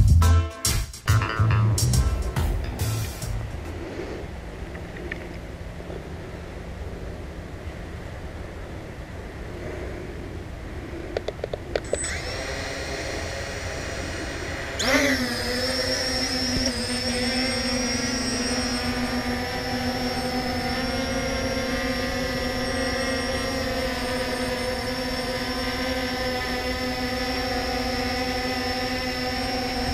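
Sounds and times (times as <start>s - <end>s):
drone motors whining: 2.1s - 29.9s.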